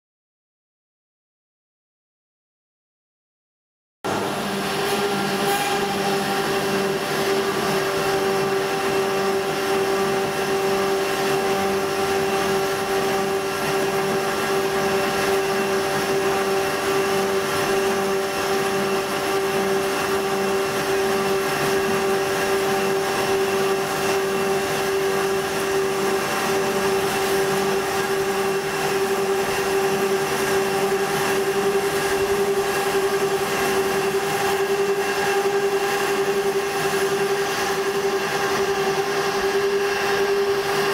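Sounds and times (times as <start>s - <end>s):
band saw cutting pipe: 4.1s - 40.9s.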